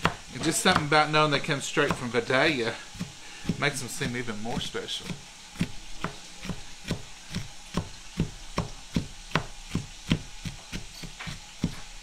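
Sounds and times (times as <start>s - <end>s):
knife chopping onion on board: 0.0s - 12.0s.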